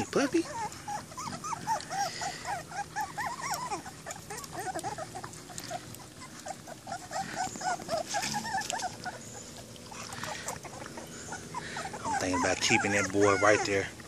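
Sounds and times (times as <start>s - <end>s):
puppies whining: 0.0s - 14.0s.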